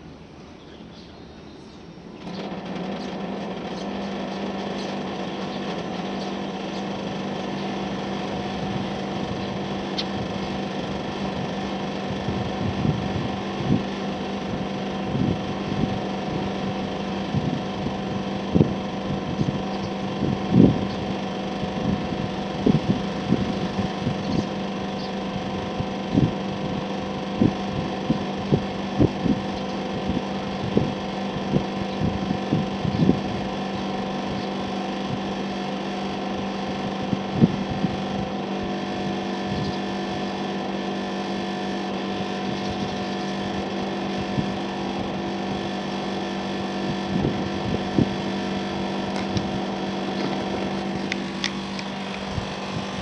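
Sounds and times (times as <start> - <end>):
air conditioner unit humming: 0.0 - 53.0.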